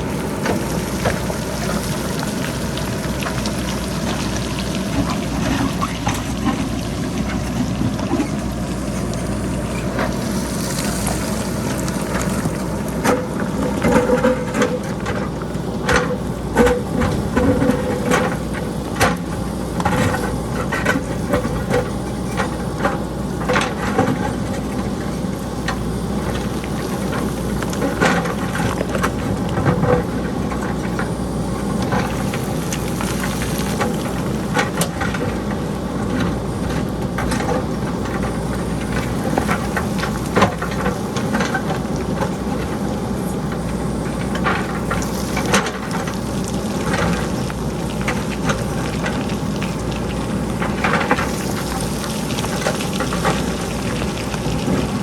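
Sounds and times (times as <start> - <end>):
diesel engine running: 0.0 - 55.0
rocks clattering down hillside: 0.0 - 55.0.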